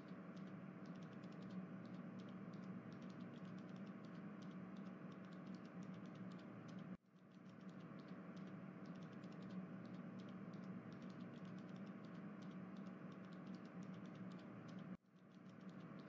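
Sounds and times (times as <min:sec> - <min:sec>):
light irregular ticks: 0:00.0 - 0:16.0.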